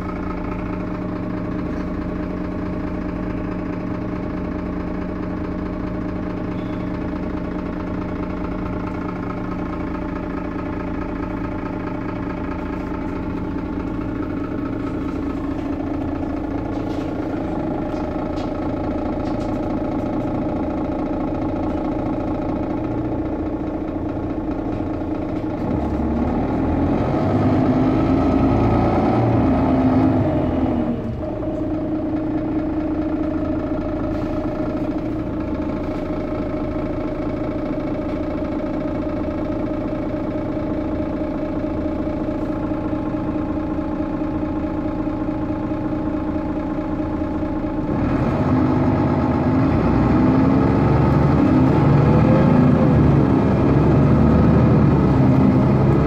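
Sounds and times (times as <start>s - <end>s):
bus diesel engine under load: 0.0s - 56.0s.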